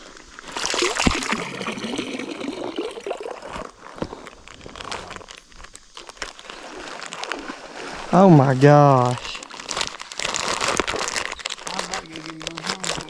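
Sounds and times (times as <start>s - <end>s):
water splashing and sloshing: 0.0s - 5.4s, 6.0s - 11.6s.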